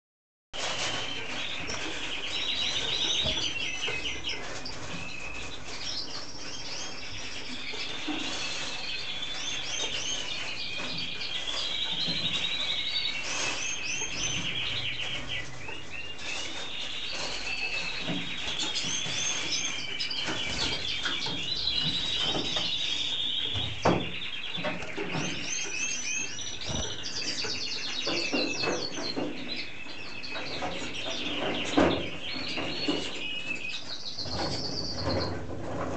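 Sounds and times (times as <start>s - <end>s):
canary singing trills: 0.6s - 35.6s.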